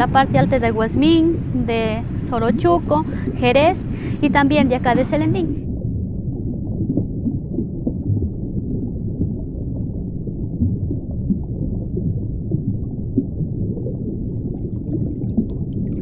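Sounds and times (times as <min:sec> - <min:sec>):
low muffled rumble: 0:00.0 - 0:16.0
small irregular gurgles: 0:00.0 - 0:16.0.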